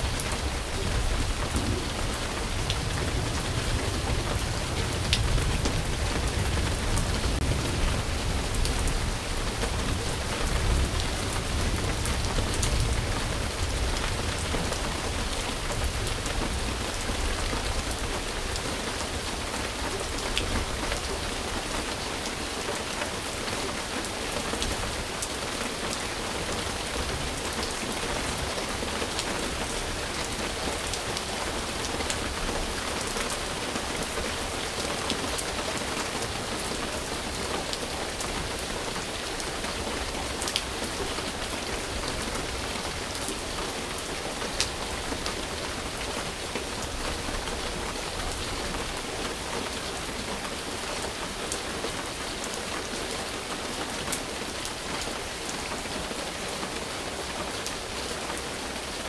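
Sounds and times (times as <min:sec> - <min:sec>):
steady rain on surface: 0:00.0 - 0:59.0.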